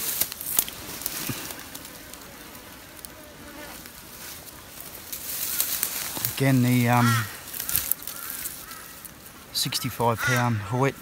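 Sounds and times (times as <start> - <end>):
high insect hiss: 0.0 - 10.1
flies buzzing: 0.0 - 11.0.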